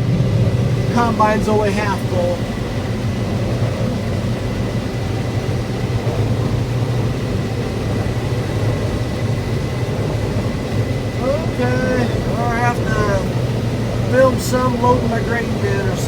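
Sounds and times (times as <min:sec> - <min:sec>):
faint high whine: 0:00.0 - 0:16.0
machine engine low drone: 0:00.0 - 0:16.0.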